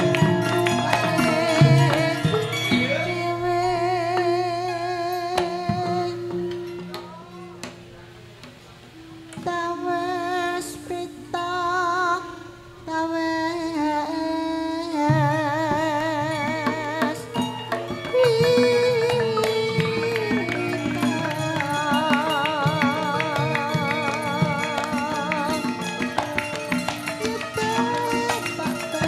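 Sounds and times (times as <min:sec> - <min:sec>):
person singing with vibrato: 0:00.0 - 0:07.7, 0:09.0 - 0:29.0
metallophone notes: 0:00.0 - 0:29.0.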